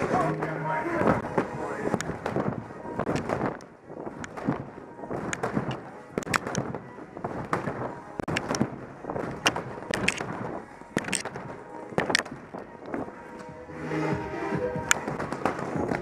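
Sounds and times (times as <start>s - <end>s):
rustling of motion: 0.0s - 16.0s.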